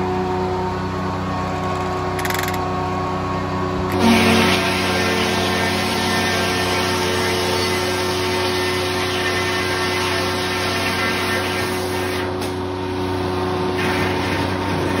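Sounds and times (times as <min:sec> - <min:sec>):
circle sawmill running: 0:00.0 - 0:15.0.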